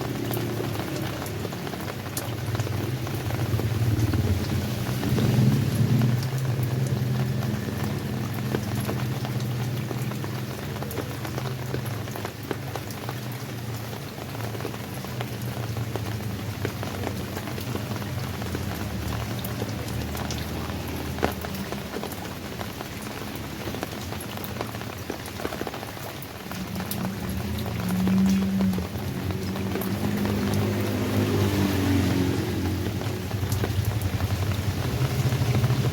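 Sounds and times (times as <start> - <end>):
rain pattering: 0.0 - 35.9.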